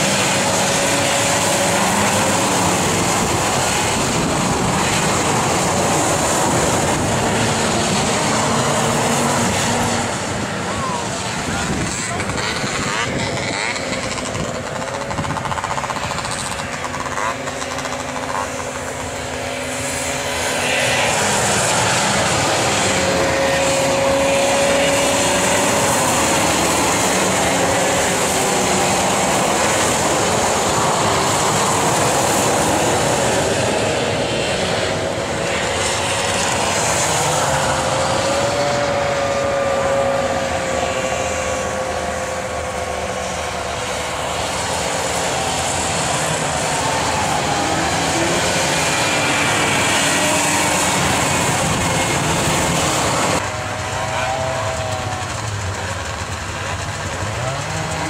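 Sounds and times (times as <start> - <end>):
snowmobile engines whining: 0.0 - 58.0.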